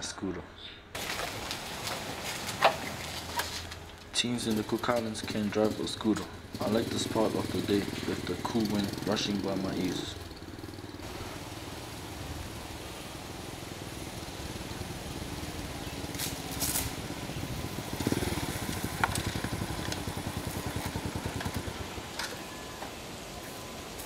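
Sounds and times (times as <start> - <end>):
scooter engine running: 1.0 - 24.0.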